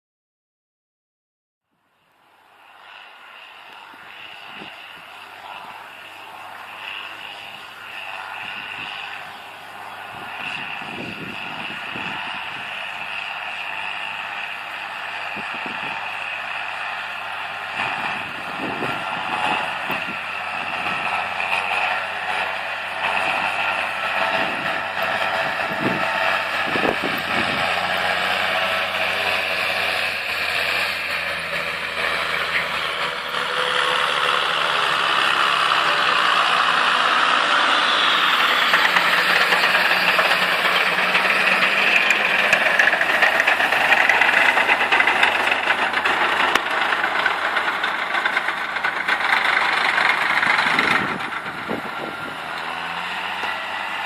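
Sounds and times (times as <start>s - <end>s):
tractor engine running: 2.3s - 54.0s
rattly mechanical noise: 3.7s - 54.0s.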